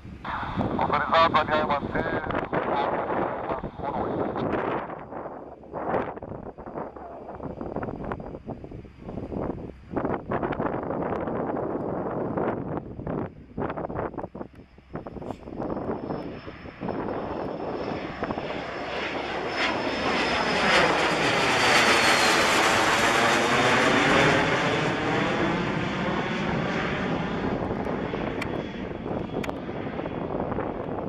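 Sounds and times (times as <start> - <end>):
jet passing overhead: 0.0 - 31.0.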